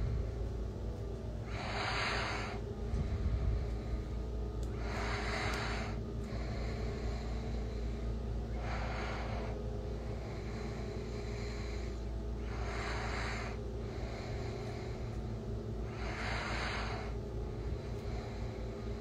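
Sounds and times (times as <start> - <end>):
person breathing noisily: 0.0 - 19.0
steady low hum: 0.0 - 19.0.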